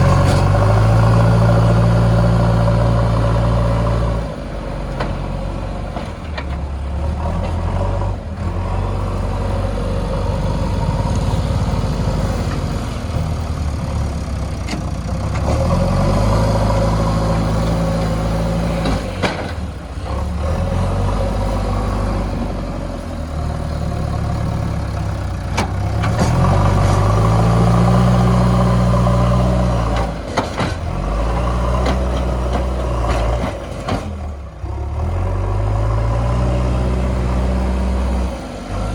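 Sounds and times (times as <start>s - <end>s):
diesel engine revving under load: 0.0s - 38.9s.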